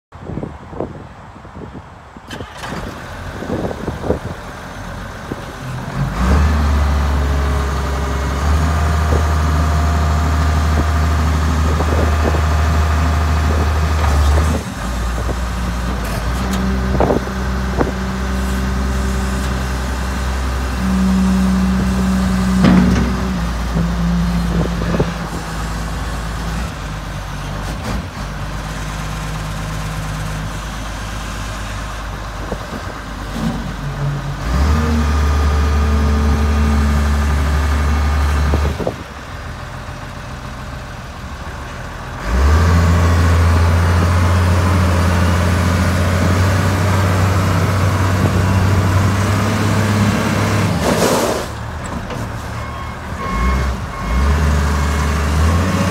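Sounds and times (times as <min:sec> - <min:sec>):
wheel loader diesel engine revving: 0:02.3 - 0:55.9.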